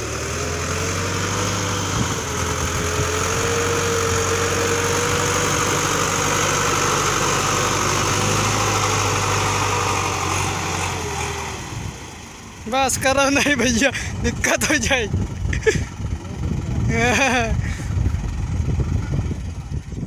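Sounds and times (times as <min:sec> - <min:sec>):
diesel tractor engine running hard: 0:00.0 - 0:20.0.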